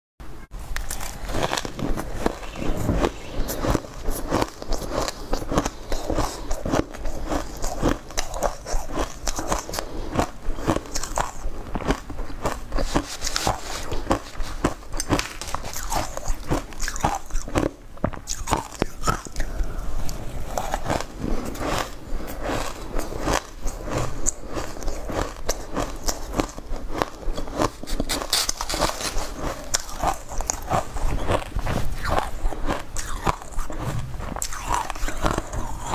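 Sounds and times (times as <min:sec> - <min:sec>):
crunching and chewing ice: 0:00.7 - 0:35.9.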